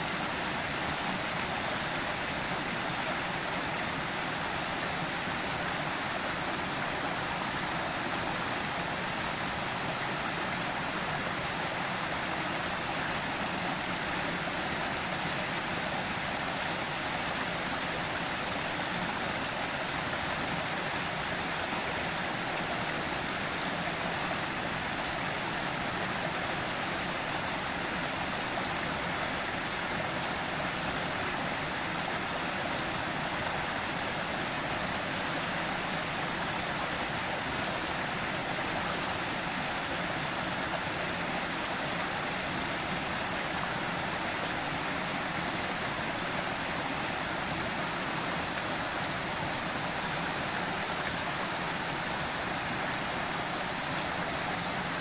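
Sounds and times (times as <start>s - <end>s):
stream splashing over rocks: 0.0s - 55.0s.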